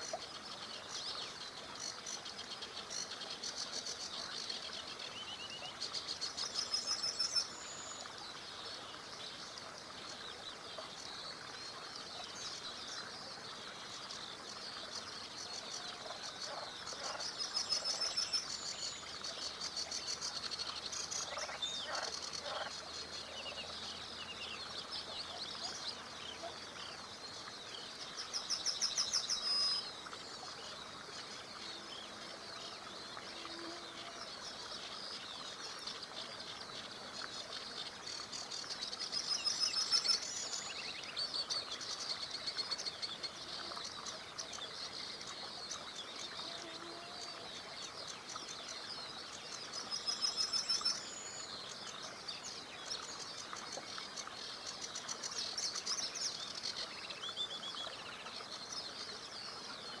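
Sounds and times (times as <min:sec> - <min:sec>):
small river rushing: 0:00.0 - 1:00.0
songbirds singing and chirping: 0:00.0 - 1:00.0.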